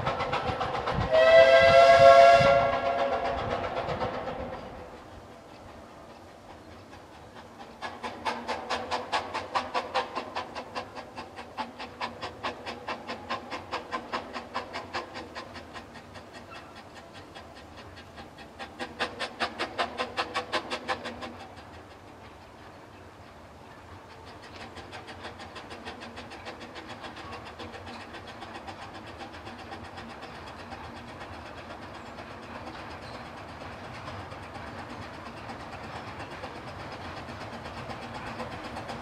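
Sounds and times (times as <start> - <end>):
steam locomotive exhaust chuffing: 0.0 - 39.0.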